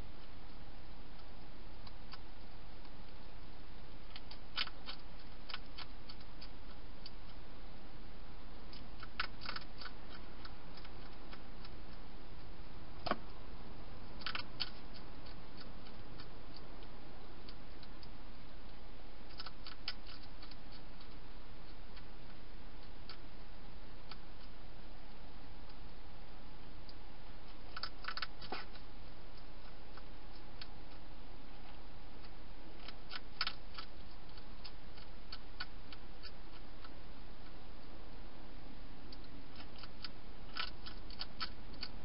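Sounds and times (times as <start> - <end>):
microphone hiss: 0.0 - 42.0
hedgehog crunching dry food: 0.2 - 7.4, 8.5 - 13.2, 14.0 - 23.4, 26.8 - 37.7, 39.1 - 42.0.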